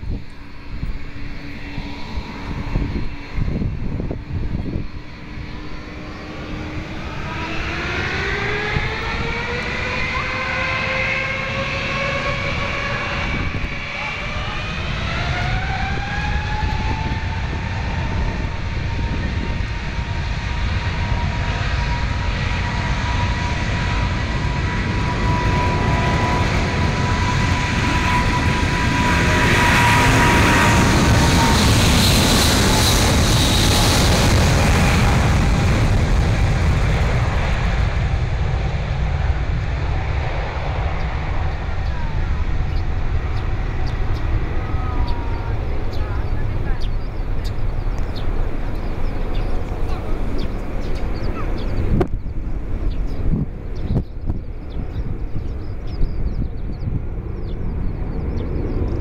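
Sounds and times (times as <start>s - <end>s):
jet engines spooling up: 0.0s - 59.0s.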